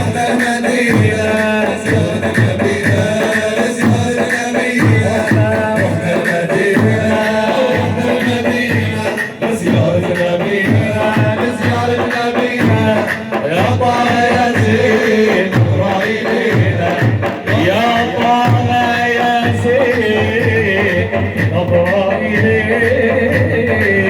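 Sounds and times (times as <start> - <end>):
devotional vocal melody: 0.0 - 24.0
steady drum beat: 0.0 - 24.0.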